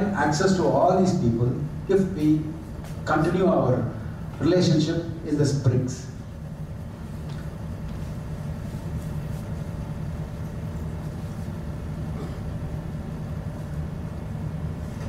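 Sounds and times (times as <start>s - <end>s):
low hum of room noise: 0.0s - 15.0s.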